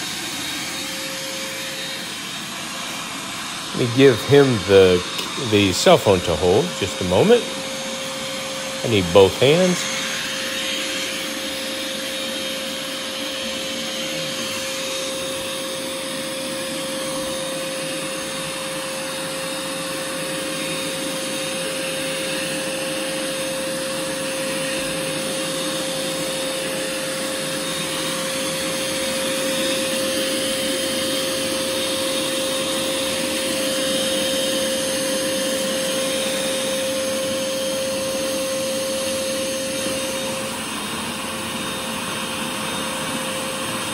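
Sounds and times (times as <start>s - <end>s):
shop vacuum running: 0.0s - 43.9s.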